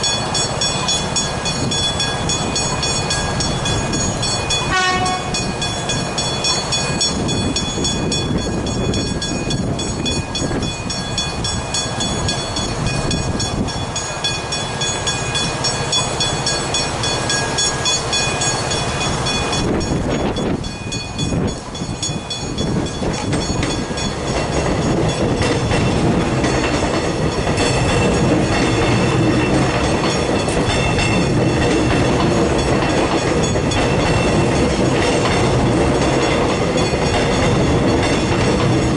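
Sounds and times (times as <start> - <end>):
train wheel clatter: 0.0 - 38.9.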